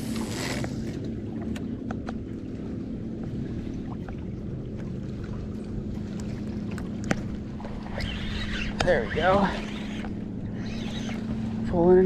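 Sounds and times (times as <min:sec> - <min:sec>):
steady low hum: 0:00.0 - 0:12.0
water lapping against boat hull: 0:00.0 - 0:12.0.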